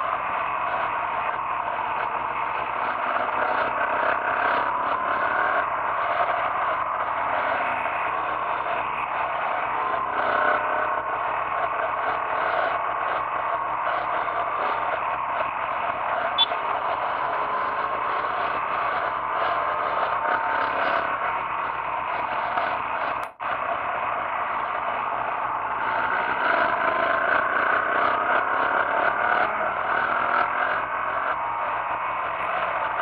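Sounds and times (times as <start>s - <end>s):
motorcycle engine: 0.0s - 33.0s.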